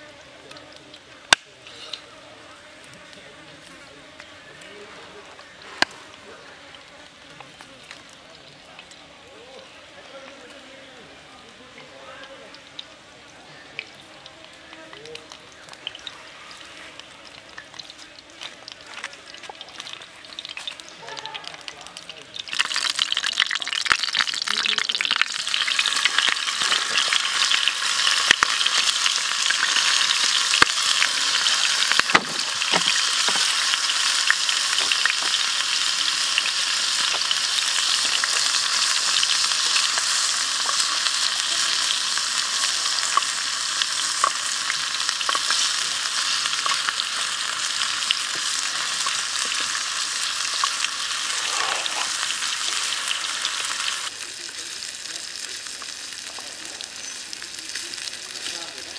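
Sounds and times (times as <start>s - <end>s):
hot oil sizzling and crackling: 0.0s - 58.9s.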